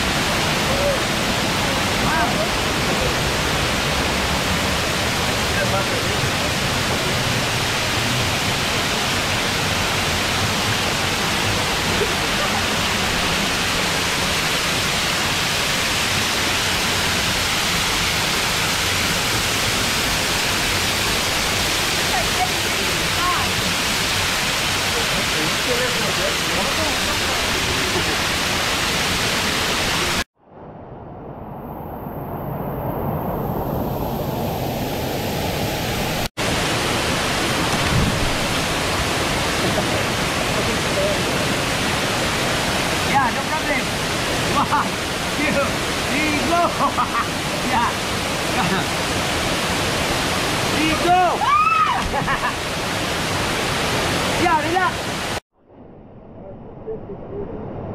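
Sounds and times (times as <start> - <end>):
waterfall splashing over rock: 0.0 - 30.3, 36.0 - 55.4.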